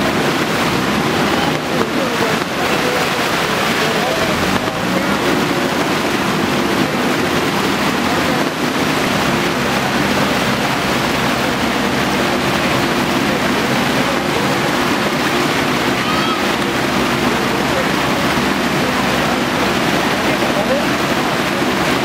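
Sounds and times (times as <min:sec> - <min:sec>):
backhoe engine running: 0:00.0 - 0:22.0
flood water rushing with debris: 0:00.0 - 0:22.0.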